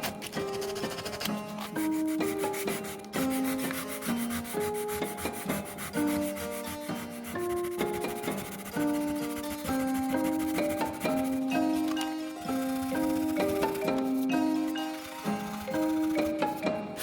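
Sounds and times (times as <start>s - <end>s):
background music with melody: 0.0s - 17.0s
sandpaper rubbing on wood: 0.0s - 17.0s.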